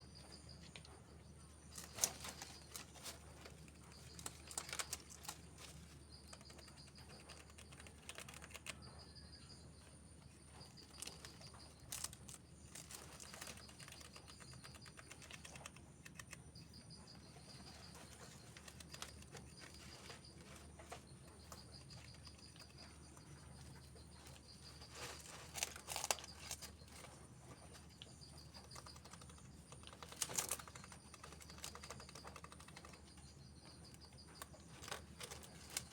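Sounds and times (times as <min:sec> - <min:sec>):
faint clicking and crackling: 0:00.2 - 0:09.6, 0:10.4 - 0:35.9.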